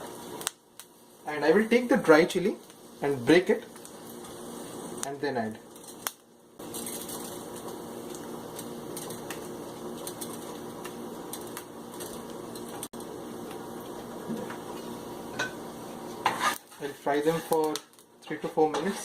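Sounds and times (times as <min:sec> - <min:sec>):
spices sizzling in hot oil: 0:00.0 - 0:19.0.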